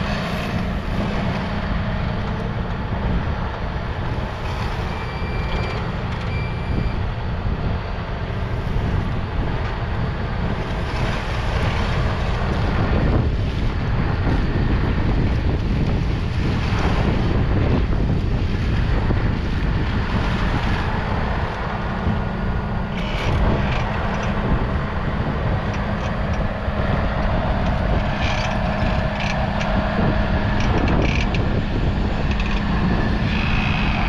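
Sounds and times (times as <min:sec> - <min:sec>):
tractor diesel engine running: 0:00.0 - 0:04.3, 0:05.0 - 0:34.0
wind buffeting microphone: 0:00.0 - 0:34.0.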